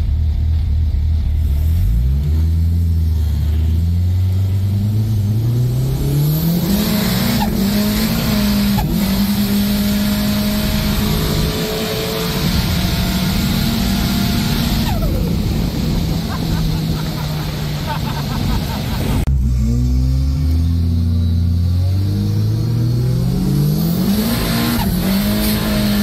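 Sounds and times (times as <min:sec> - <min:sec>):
pickup engine accelerating: 0:00.0 - 0:26.0
wind and road noise: 0:00.0 - 0:26.0.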